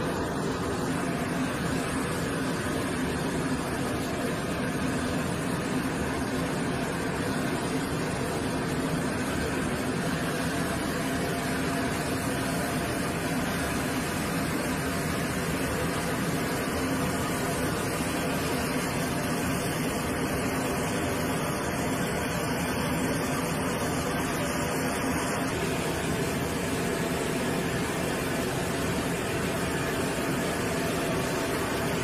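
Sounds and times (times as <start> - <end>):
drone of engines and machinery: 0.0 - 32.0.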